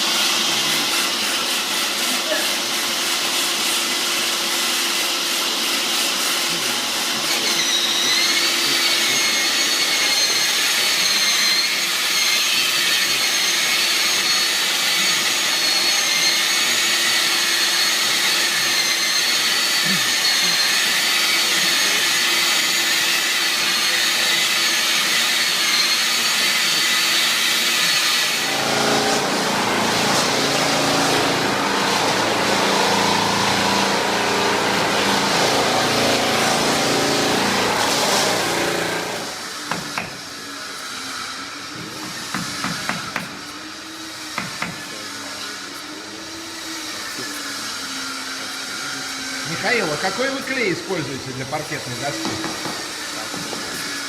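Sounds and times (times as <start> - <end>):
high-speed electric motor: 0.0 - 54.0.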